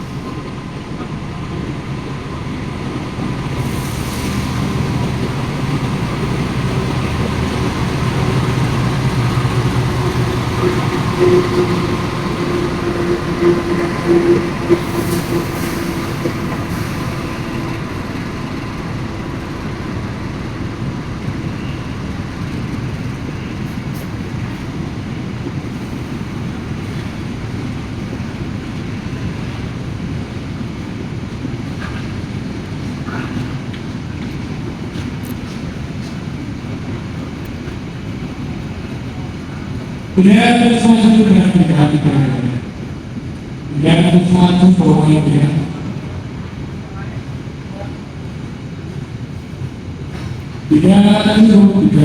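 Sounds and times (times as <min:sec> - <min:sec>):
diesel locomotive engine running: 0:00.0 - 0:52.0
train wheels on rails: 0:00.0 - 0:52.0.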